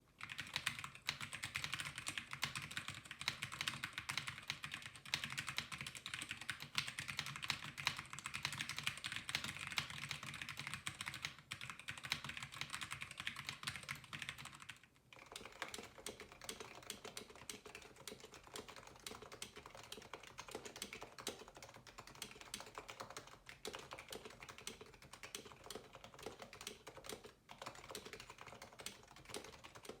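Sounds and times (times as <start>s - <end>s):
deeper quieter keyboard typing: 0.2s - 30.0s
sharp keyboard typing: 0.2s - 30.0s.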